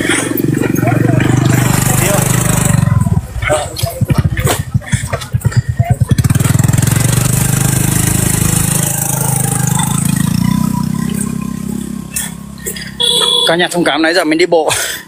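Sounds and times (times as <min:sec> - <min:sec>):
motorbike engine running: 0:00.0 - 0:13.5.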